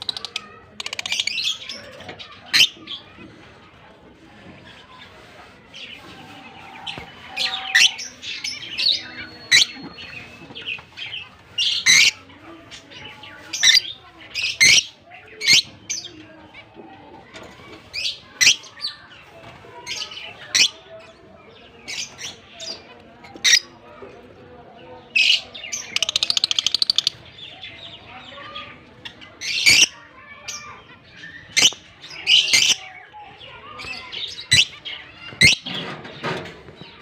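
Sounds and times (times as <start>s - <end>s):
lovebirds chirping and squawking: 0.0s - 37.0s.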